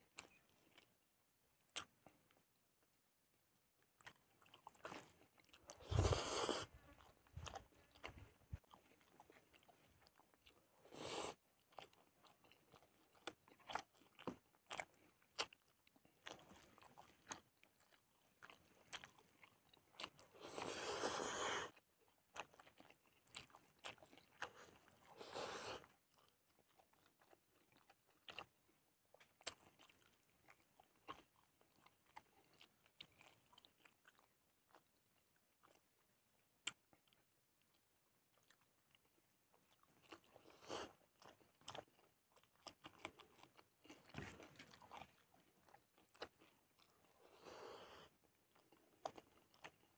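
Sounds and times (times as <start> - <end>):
person chewing: 0.1 - 1.0, 1.6 - 2.5, 3.8 - 49.9.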